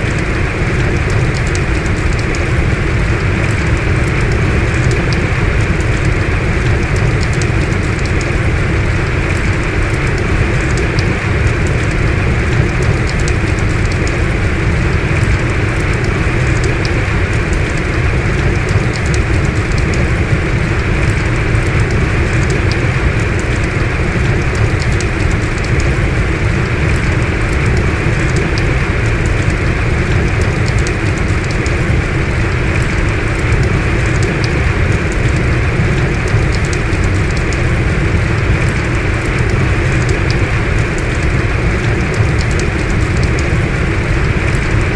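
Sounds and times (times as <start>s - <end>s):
heavy rain hissing: 0.0s - 44.9s
sharp raindrop ticks: 0.0s - 44.9s.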